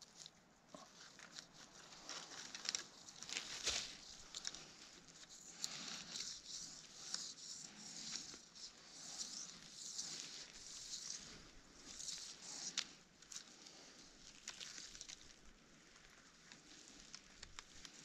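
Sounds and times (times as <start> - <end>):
wire scratching against bark: 0.0 - 18.0.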